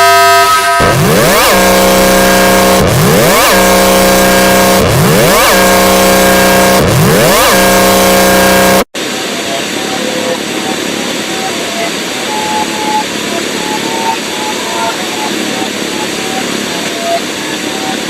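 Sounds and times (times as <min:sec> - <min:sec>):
electronic alarm whoop and buzz: 0:00.0 - 0:18.0.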